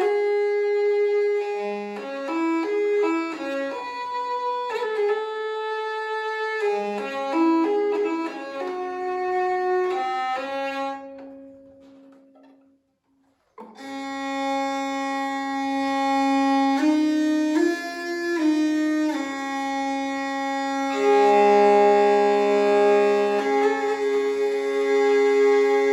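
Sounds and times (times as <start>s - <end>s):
drone strings: 0.0s - 25.9s
hurdy-gurdy melody: 0.0s - 25.9s.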